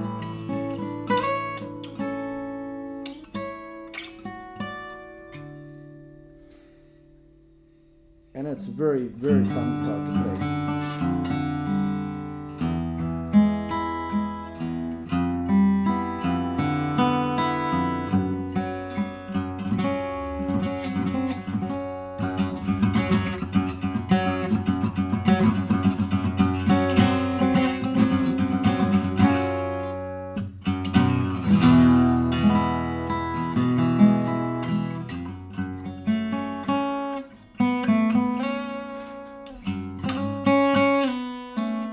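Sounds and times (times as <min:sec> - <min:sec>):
acoustic guitar picking: 0:00.0 - 0:41.9.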